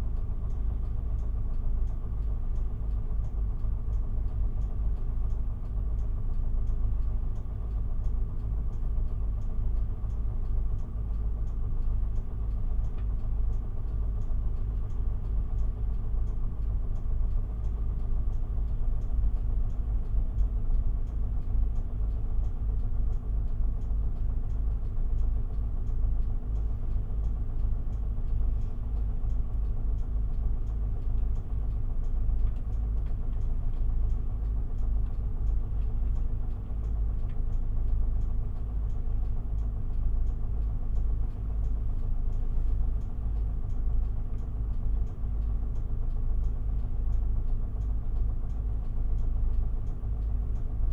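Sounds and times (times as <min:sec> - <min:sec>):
bus diesel engine rumble: 0:00.0 - 0:50.9
faint regular ticking: 0:00.0 - 0:50.9.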